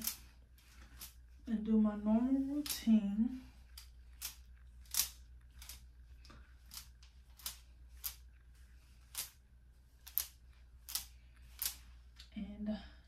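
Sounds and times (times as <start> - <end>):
brush scratching through hair: 0.0 - 12.2.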